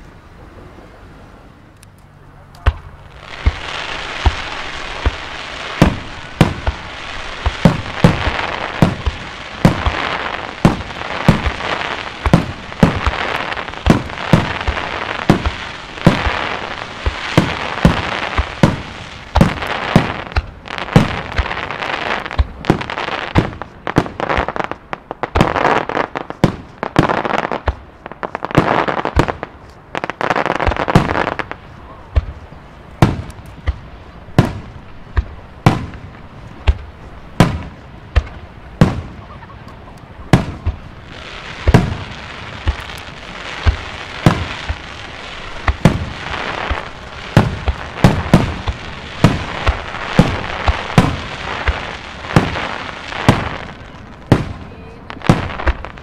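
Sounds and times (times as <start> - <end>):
fireworks crackling: 1.8 - 56.0
fireworks booming: 2.6 - 56.0.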